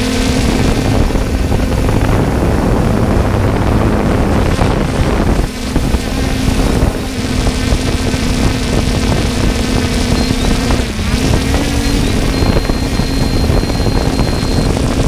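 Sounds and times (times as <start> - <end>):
drone propellers humming: 0.0 - 15.0
wind buffeting microphone: 0.0 - 15.0.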